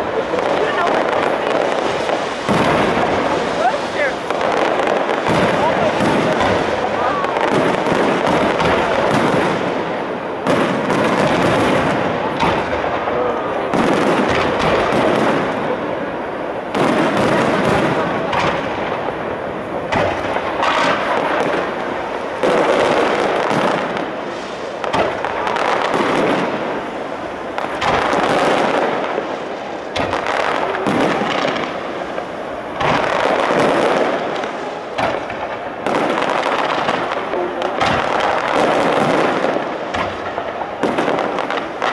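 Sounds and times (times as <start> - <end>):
firework bangs: 0.0 - 41.9
firework crackling: 0.0 - 41.9.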